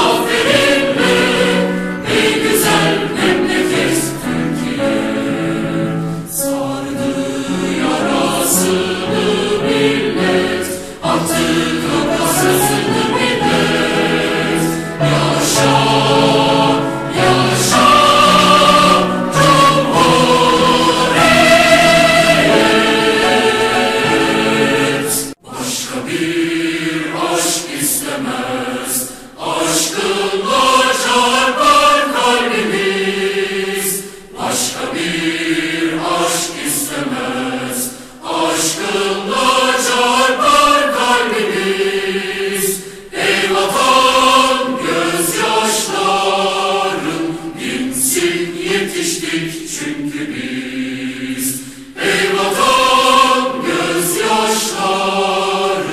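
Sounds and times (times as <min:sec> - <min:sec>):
choir singing a march: 0:00.0 - 0:55.9.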